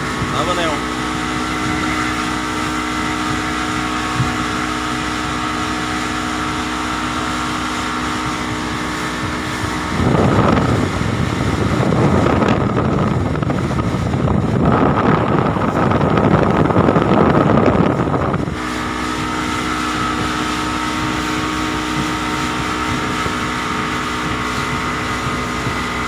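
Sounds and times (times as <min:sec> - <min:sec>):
motorboat engine running: 0:00.0 - 0:26.0
rush of water: 0:00.0 - 0:26.0
wind on microphone: 0:00.0 - 0:26.0.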